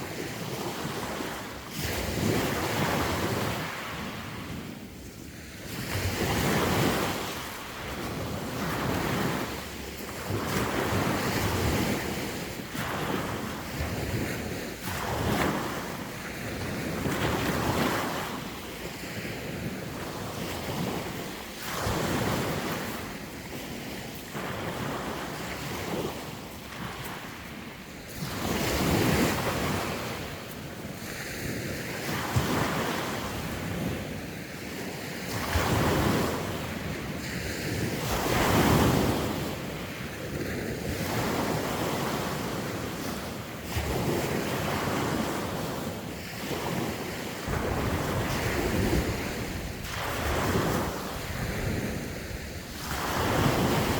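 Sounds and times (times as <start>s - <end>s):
sea waves breaking on shore: 0.0s - 53.9s
wind noise on microphone: 0.0s - 53.9s.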